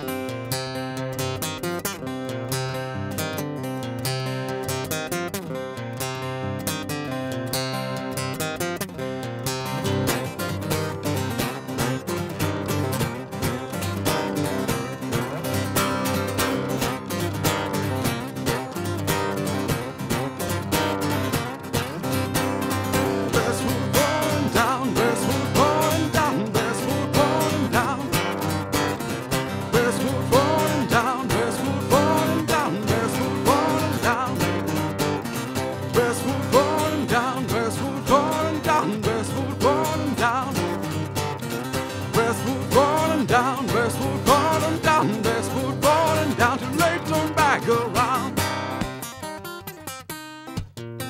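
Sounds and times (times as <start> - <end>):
acoustic guitar music: 0.0 - 51.0.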